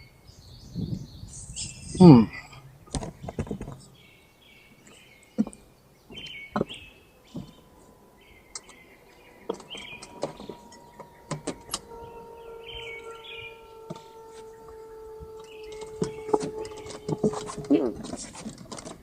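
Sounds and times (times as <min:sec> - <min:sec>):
lower steady tone: 0:00.0 - 0:18.6
songbird chirping: 0:00.0 - 0:19.0
faint steady tone: 0:01.2 - 0:19.0.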